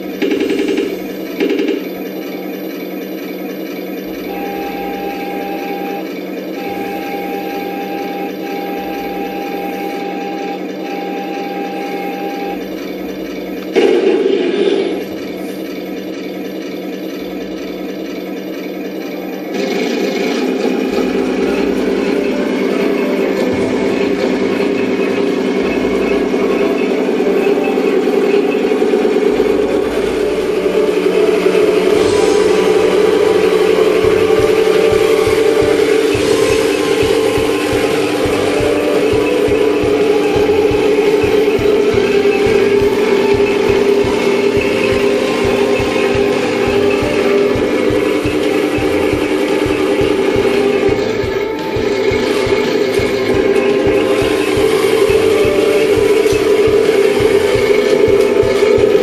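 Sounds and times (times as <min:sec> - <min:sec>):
thin whine: 0:00.0 - 0:59.0
toy tank mechanical rumble: 0:00.0 - 0:59.0.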